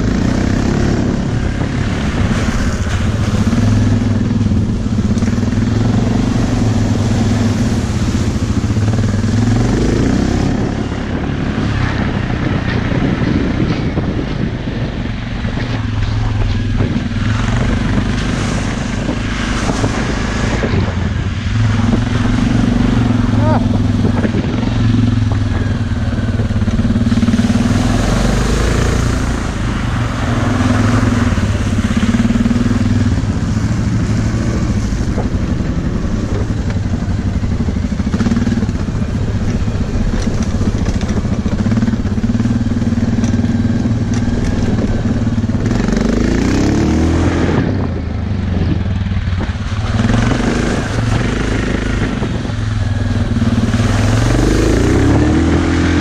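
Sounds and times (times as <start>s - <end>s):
atv engine running: 0.0s - 56.0s
steady rushing noise: 0.0s - 56.0s.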